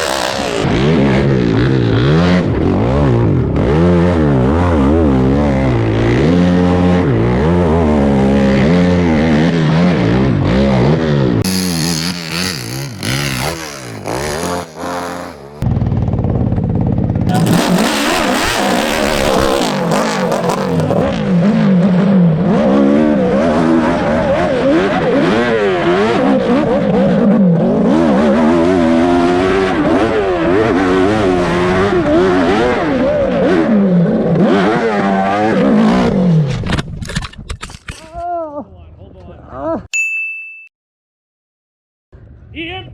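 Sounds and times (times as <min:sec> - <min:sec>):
motorcycle engine revving: 0:00.0 - 0:36.6.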